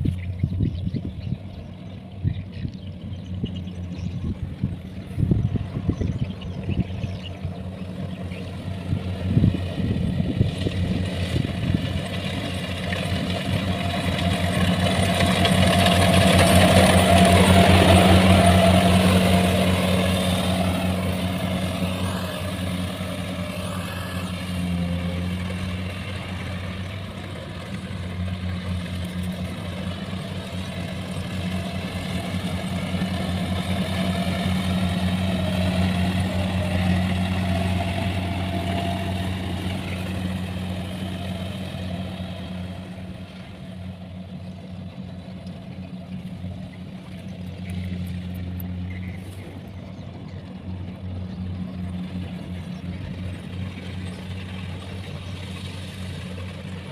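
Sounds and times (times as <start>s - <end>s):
harvester diesel engine running: 0.0s - 56.9s.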